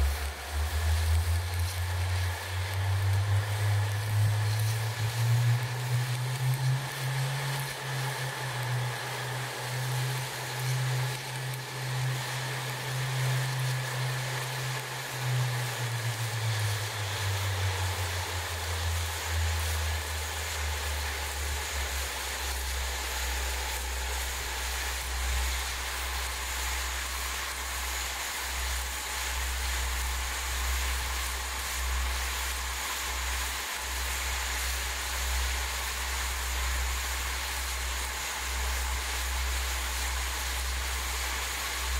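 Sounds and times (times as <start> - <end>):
quadcopter motors and propellers: 0.0 - 41.9.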